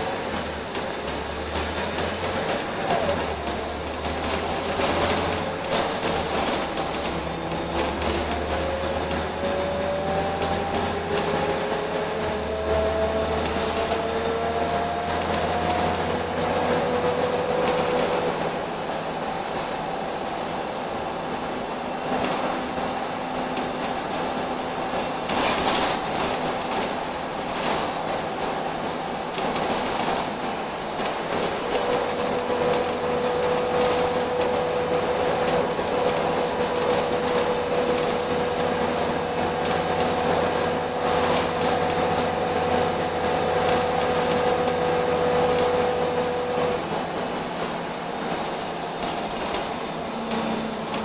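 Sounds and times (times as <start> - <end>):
bus engine running: 0.0 - 51.0
road noise: 0.0 - 51.0.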